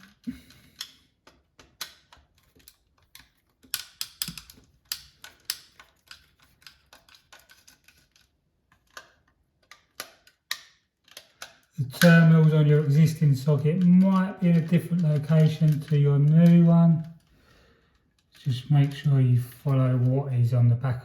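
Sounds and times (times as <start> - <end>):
screwdriver clicking on screws: 0.0 - 17.4.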